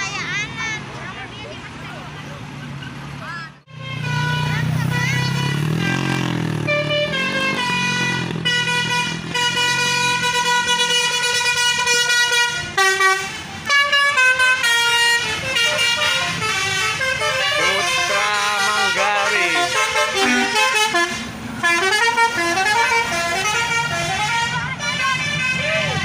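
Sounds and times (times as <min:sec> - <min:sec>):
bus horn playing a melody: 0:03.7 - 0:26.0.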